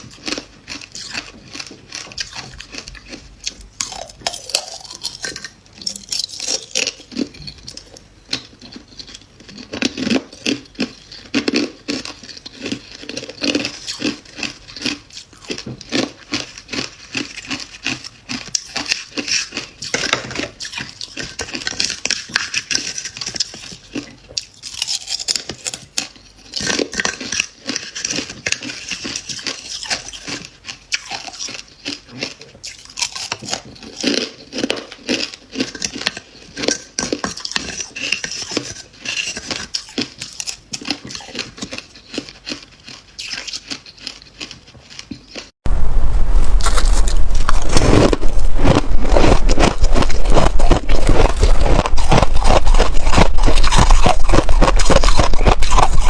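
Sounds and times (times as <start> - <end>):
frost being chewed and crunched: 0.0 - 45.6, 46.5 - 56.0.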